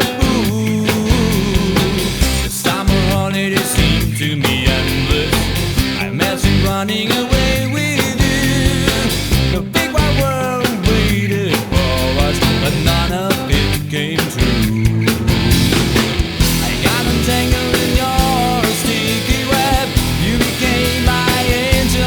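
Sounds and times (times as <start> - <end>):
instrumental pop-rock band: 0.0 - 22.0.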